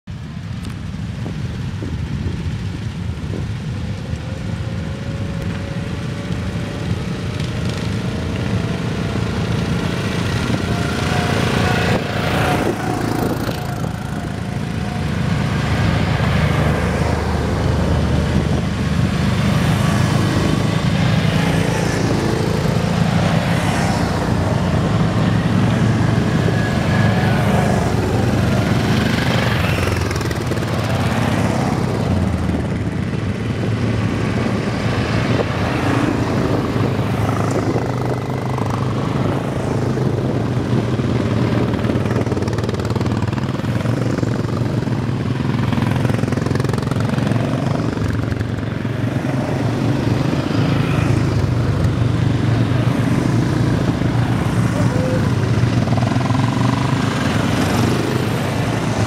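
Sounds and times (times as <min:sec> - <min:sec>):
quad bike engines passing: 0:00.2 - 0:59.0.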